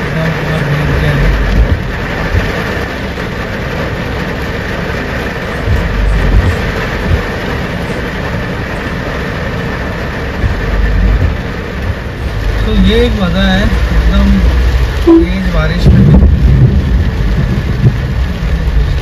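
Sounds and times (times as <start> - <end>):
heavy rain pelting glass: 0.0 - 19.0
vehicle engine rumble: 0.0 - 19.0.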